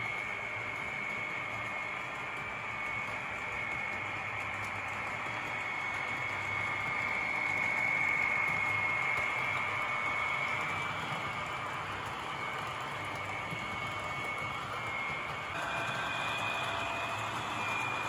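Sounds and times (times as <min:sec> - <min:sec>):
model train motor whine: 0:00.0 - 0:18.0
train rolling noise: 0:00.0 - 0:18.0.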